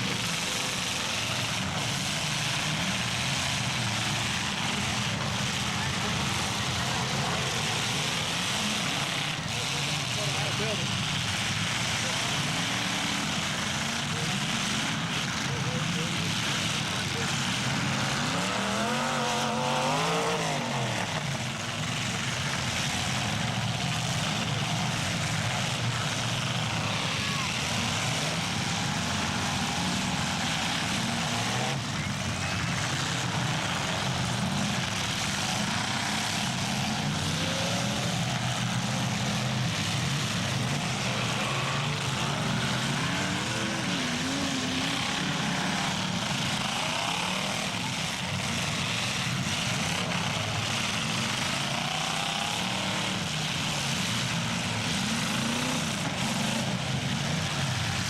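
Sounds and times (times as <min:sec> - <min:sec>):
car engines revving: 0:00.0 - 0:58.0
steady background noise: 0:00.0 - 0:58.0.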